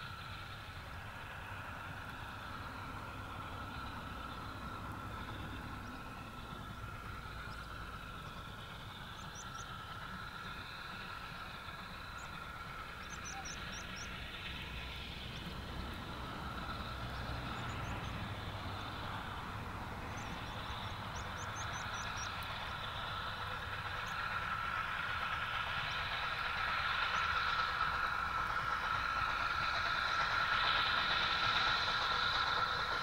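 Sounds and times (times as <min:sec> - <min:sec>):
steam locomotive working a train: 0:00.0 - 0:33.0.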